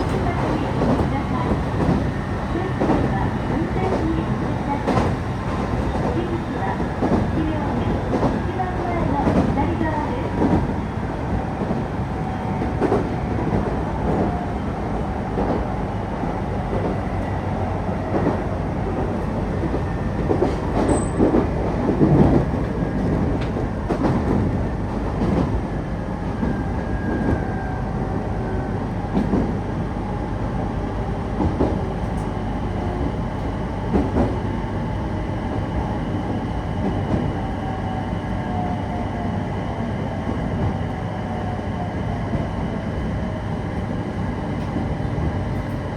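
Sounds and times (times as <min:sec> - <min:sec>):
train rolling rumble: 0:00.0 - 0:45.9.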